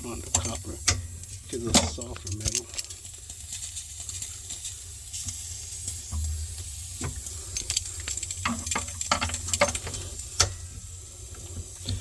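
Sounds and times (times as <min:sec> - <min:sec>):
gas hissing from tubing: 0:00.0 - 0:12.0.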